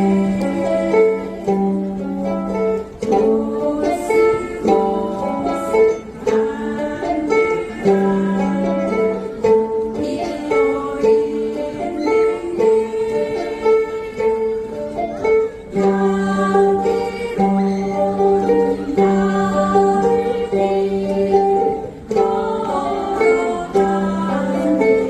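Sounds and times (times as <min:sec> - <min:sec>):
ukulele ensemble playing: 0:00.0 - 0:25.0.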